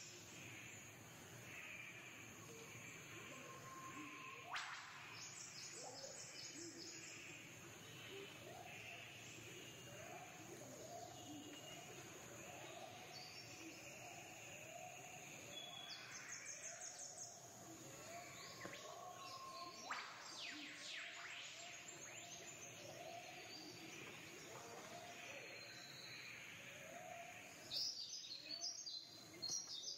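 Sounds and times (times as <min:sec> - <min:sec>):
steady background hiss: 0:00.0 - 0:29.9.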